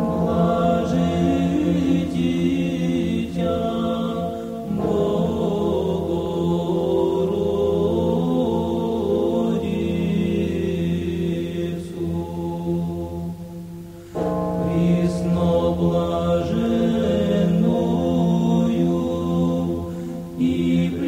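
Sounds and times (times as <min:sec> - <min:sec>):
liturgical chant with held notes: 0:00.0 - 0:21.0.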